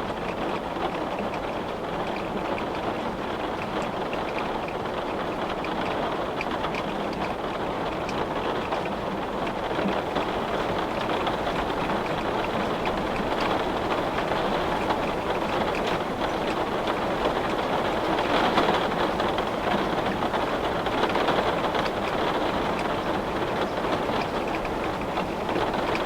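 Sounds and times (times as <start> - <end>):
heavy rain on glass: 0.0 - 26.0.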